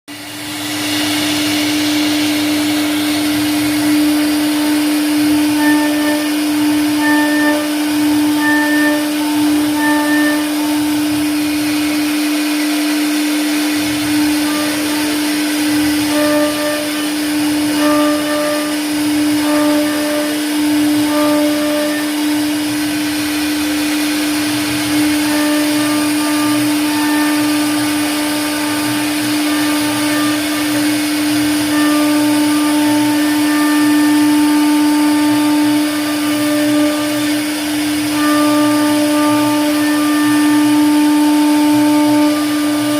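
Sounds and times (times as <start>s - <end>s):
cnc router spindle hum: 0.1s - 42.9s
wood cutting hiss: 0.1s - 42.9s.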